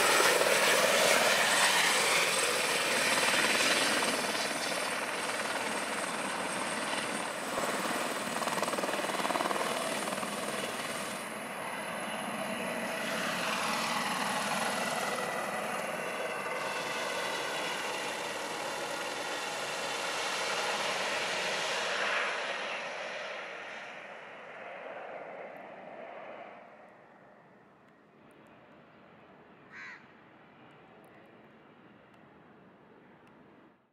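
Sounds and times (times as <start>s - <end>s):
helicopter flying overhead: 0.0s - 33.7s.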